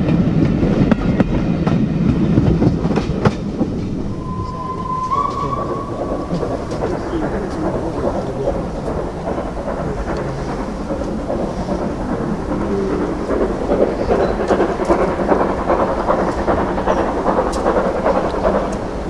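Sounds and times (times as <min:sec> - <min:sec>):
train passing rumble: 0:00.0 - 0:19.0.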